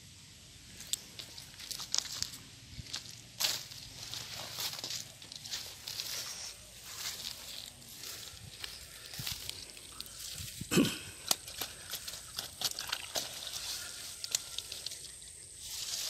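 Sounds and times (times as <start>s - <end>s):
dry grass rustling and crackling: 0.7s - 16.0s.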